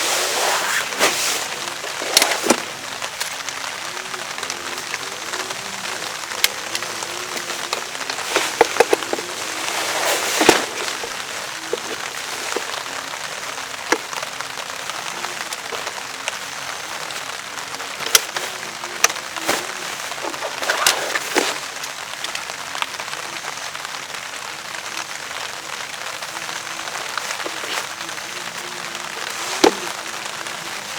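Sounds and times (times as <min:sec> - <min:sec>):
heavy rain hissing: 0:00.0 - 0:30.9
raindrops ticking: 0:00.0 - 0:30.9.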